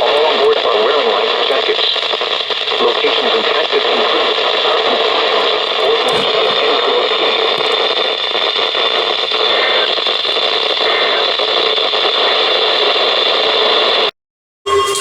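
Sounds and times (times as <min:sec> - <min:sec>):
radio static hiss: 0:00.0 - 0:14.1.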